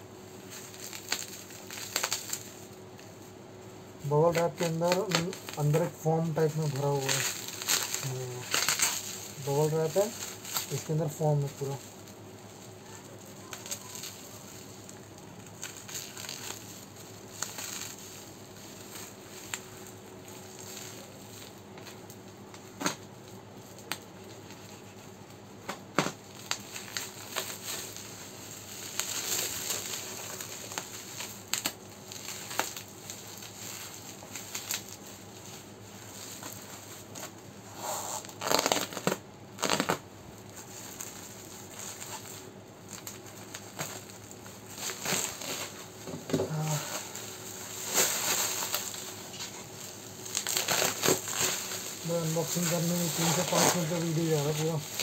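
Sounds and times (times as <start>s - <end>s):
bubble wrap crinkling: 0.0s - 55.0s
packaging tearing: 0.4s - 2.7s, 4.1s - 23.1s, 25.7s - 55.0s.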